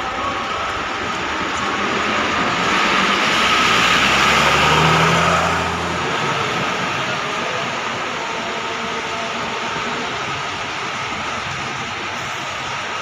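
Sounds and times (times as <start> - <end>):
diesel bus engine passing: 0.0 - 13.0.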